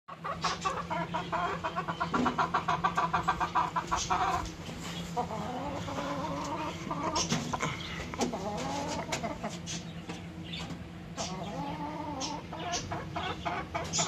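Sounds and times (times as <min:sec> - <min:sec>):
chickens clucking: 0:00.1 - 0:14.0.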